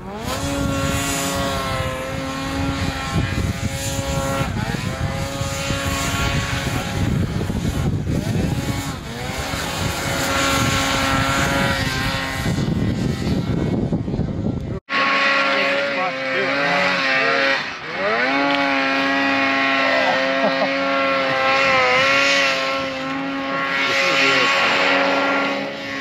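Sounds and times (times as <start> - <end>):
snowmobile engine running hard: 0.0 - 26.0.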